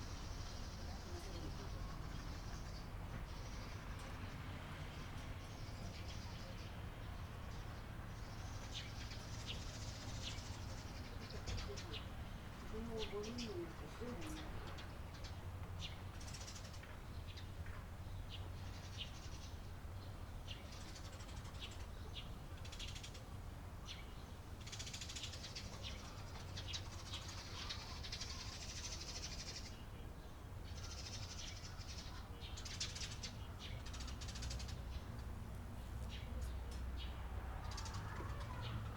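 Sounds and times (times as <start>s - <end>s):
sparrows chirping: 0.0s - 4.4s, 5.1s - 38.8s.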